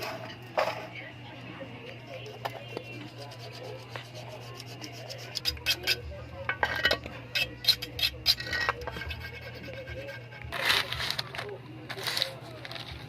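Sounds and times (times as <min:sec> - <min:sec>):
steady low hum: 0:00.0 - 0:13.0
rubbing and scraping on metal parts: 0:02.1 - 0:13.0.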